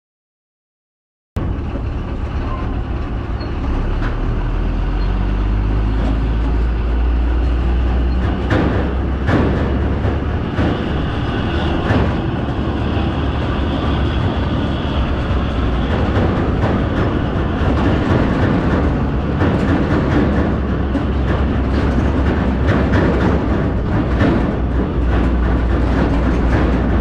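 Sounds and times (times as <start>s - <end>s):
engine and road rumble: 1.4s - 27.0s
rattles and clacks: 1.4s - 27.0s.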